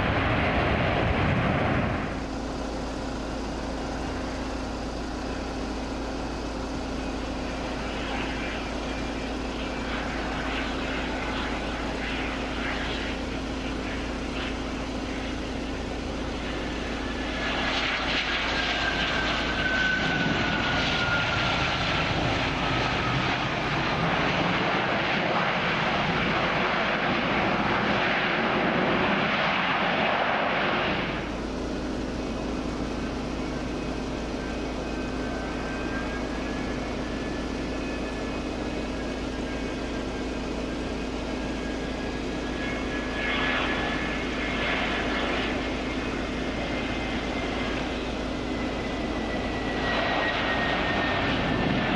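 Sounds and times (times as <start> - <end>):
jet engine rush and whine: 0.0 - 51.9.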